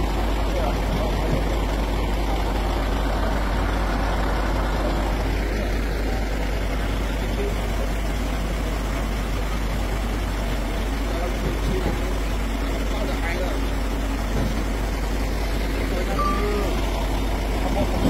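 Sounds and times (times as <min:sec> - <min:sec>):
crane engine droning: 0:00.0 - 0:18.0.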